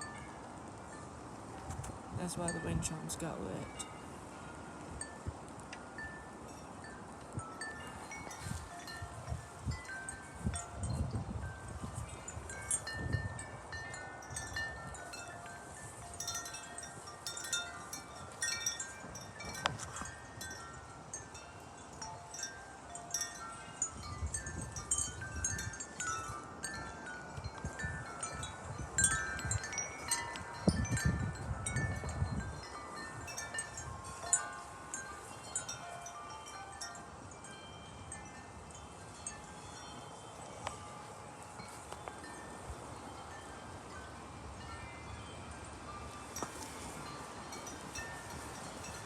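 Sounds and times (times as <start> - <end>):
wind chimes ringing: 0.0 - 49.0
wind rumbling on microphone: 0.0 - 49.0.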